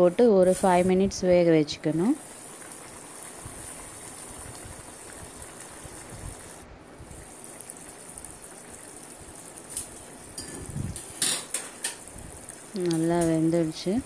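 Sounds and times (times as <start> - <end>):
gravy simmering and bubbling: 0.0 - 14.0.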